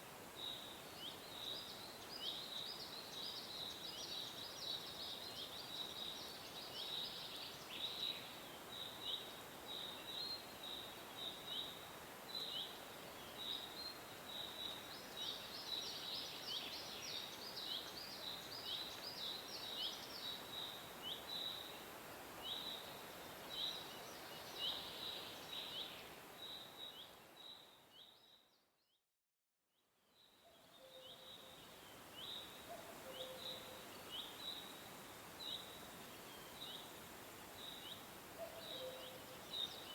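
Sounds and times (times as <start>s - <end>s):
faint hiss: 0.0s - 28.3s, 30.0s - 39.9s.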